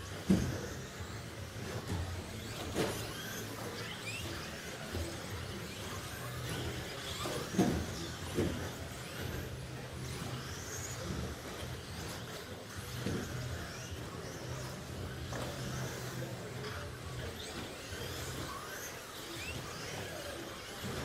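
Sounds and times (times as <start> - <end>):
electric rc truck motors whining: 0.0 - 21.0.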